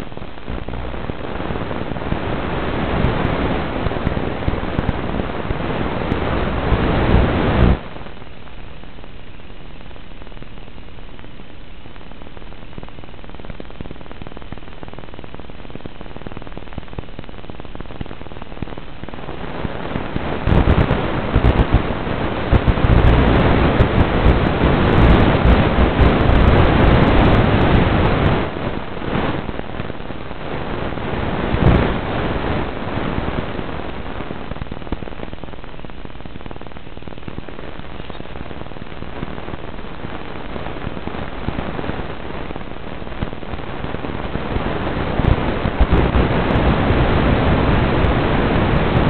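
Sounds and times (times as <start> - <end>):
loud crackling: 0.0 - 49.0
radio static hiss: 0.0 - 49.0.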